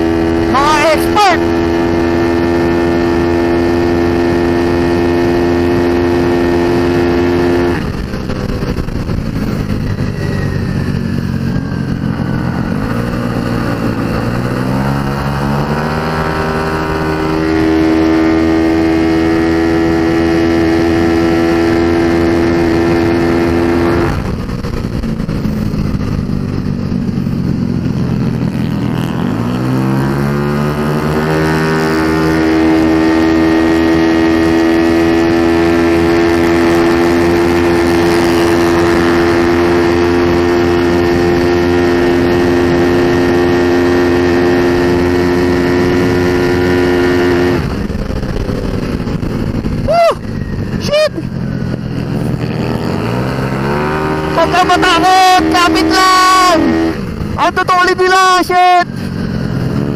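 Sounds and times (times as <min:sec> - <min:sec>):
scooter engine revving: 0:00.0 - 0:59.9.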